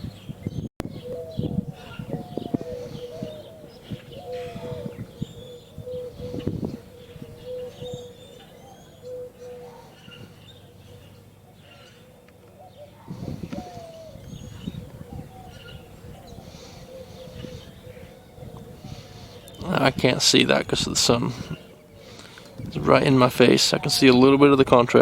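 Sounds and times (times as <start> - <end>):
low repeated cooing of birds: 0.0 - 25.0
small birds chirping: 0.0 - 25.0.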